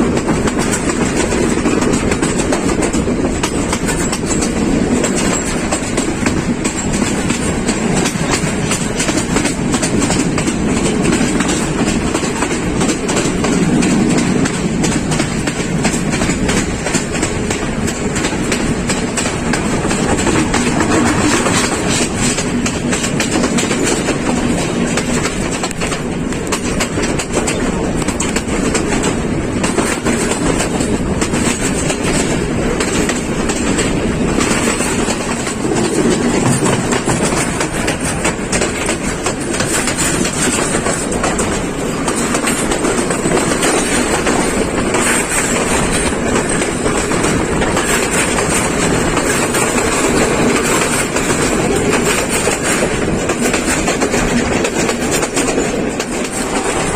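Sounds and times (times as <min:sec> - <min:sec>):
train rumbling: 0:00.0 - 0:56.9
wheels clattering over rails: 0:00.0 - 0:56.9.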